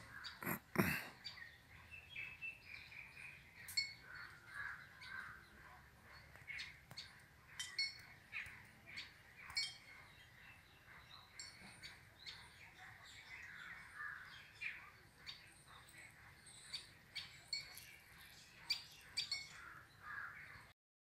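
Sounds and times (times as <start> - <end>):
small birds chirping: 0.0 - 20.8
soft continuous twittering: 1.2 - 19.8.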